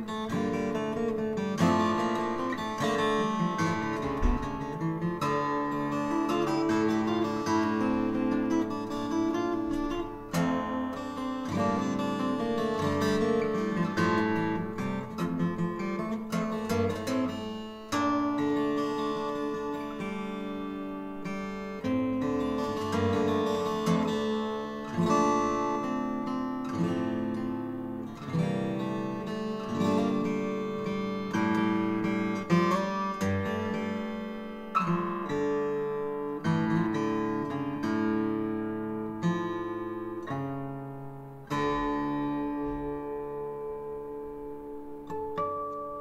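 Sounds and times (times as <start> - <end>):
fingerstyle acoustic guitar: 0.0 - 46.0.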